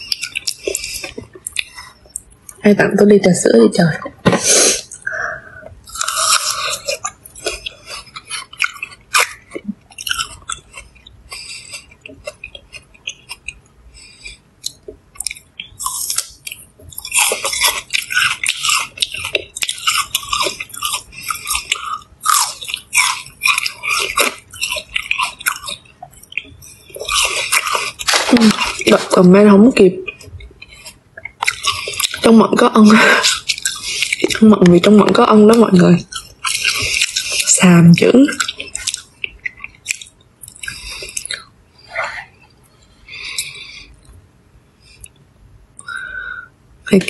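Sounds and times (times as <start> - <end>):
crunchy chewing of fruit: 0.0 - 2.6, 5.8 - 44.2.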